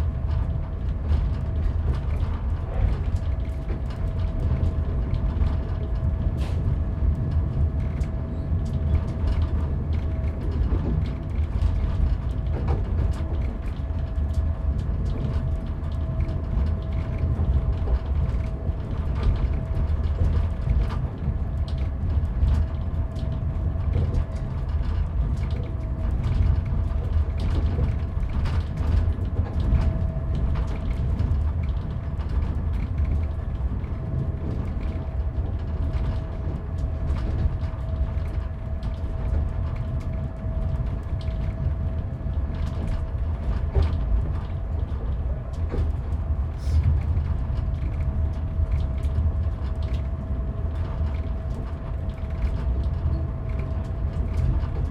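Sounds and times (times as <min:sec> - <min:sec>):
constant hum: 0:00.0 - 0:54.9
train rumble: 0:00.0 - 0:54.9.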